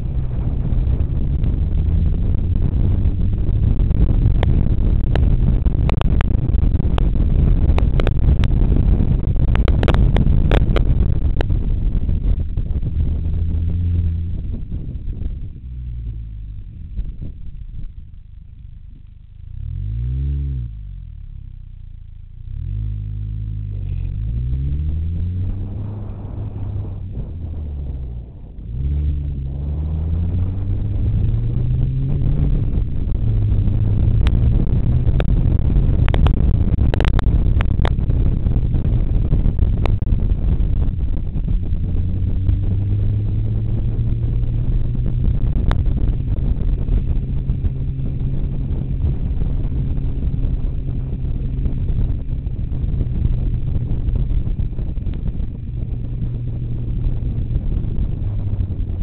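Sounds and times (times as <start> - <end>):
tyre and wind noise: 0.0 - 20.9, 22.4 - 59.0
car engine accelerating: 0.0 - 59.0.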